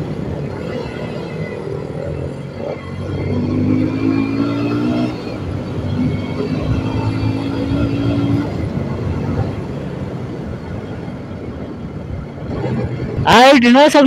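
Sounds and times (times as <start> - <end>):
road and wind noise: 0.0 - 14.0.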